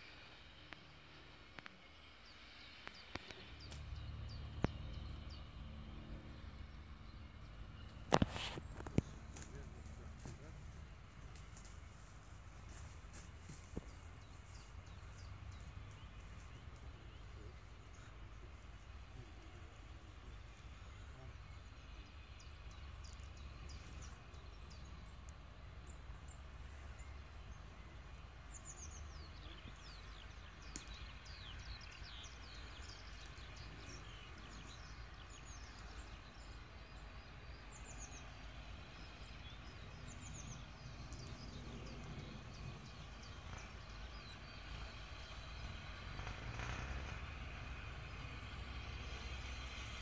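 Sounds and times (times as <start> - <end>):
steady low rumble: 0.0 - 46.1
small birds chirping: 0.0 - 50.0.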